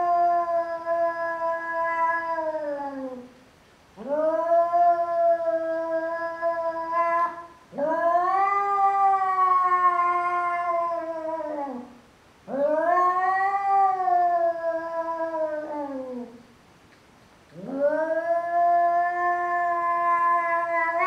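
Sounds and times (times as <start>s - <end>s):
cat yowling: 0.0s - 3.3s, 4.0s - 11.9s, 12.5s - 16.4s, 17.6s - 21.0s.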